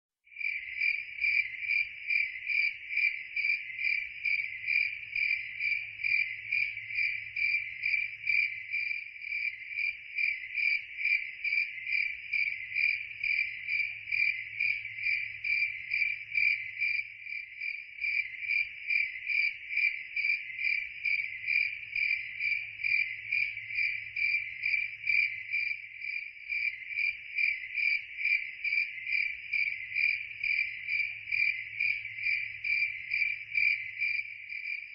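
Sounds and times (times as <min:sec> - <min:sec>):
cricket chirping: 0:00.3 - 0:34.9.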